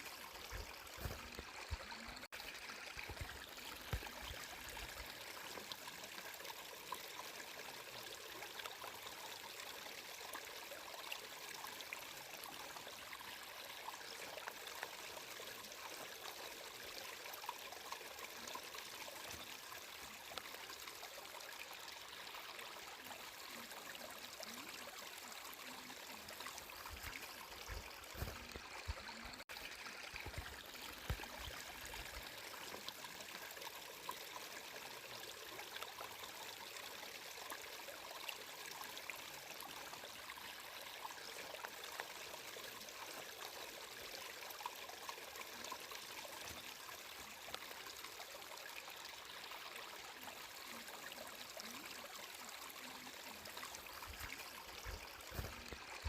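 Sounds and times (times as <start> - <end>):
stream of water trickling: 0.0 - 56.0.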